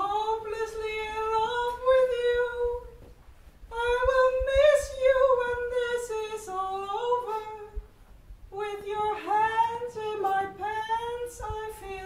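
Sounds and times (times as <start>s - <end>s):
woman singing unaccompanied: 0.0s - 3.1s, 3.7s - 12.0s.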